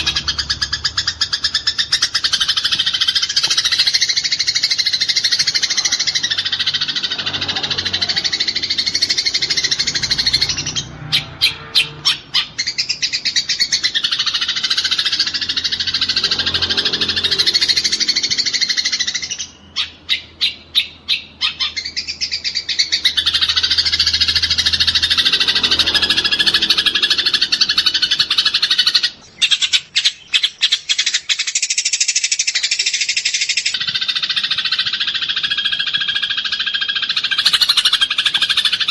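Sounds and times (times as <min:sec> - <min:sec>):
rapid sharp bird notes: 0:00.0 - 0:38.9
sparrows chattering: 0:00.0 - 0:38.9.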